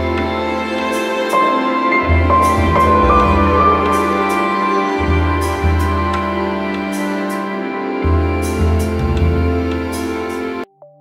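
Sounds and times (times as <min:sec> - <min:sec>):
calm instrumental music: 0:00.0 - 0:11.0.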